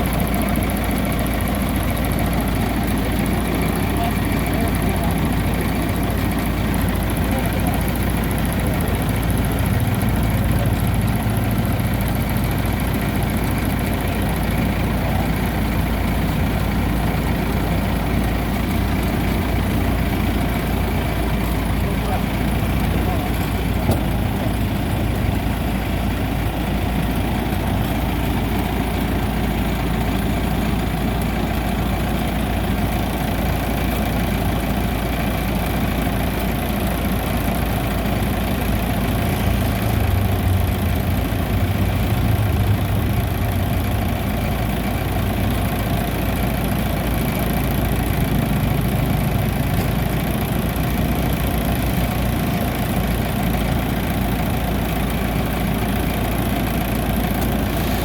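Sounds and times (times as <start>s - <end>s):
harvester engine humming: 0.0s - 58.0s.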